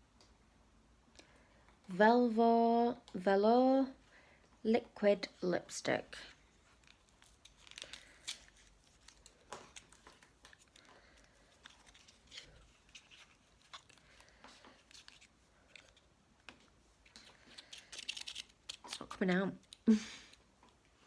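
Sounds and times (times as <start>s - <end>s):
light rustling of packaging: 3.9s - 21.0s.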